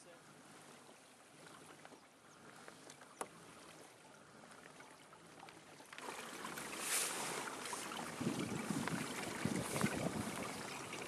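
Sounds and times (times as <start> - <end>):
paddle water ticks and drips: 0.0 - 11.0.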